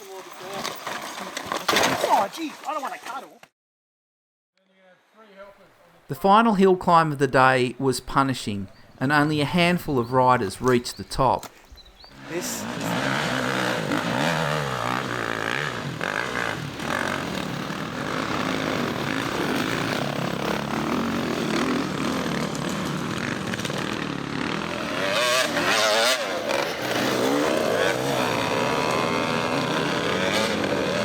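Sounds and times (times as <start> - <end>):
dirt bike engines revving: 6.1 - 31.0.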